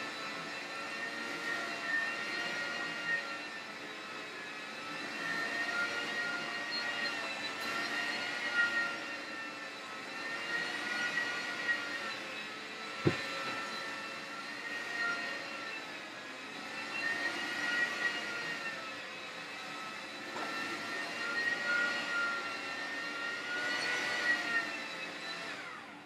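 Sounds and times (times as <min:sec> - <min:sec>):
floor scrubber motor whine: 0:00.0 - 0:26.0.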